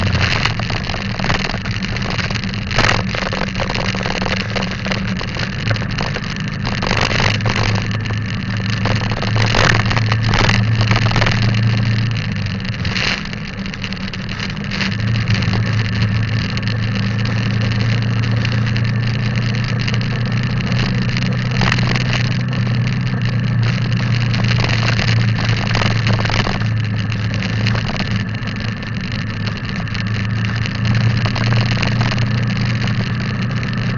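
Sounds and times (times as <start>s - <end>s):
motorbike engine cruising: 0.0s - 33.9s
wind and road noise: 0.0s - 33.9s.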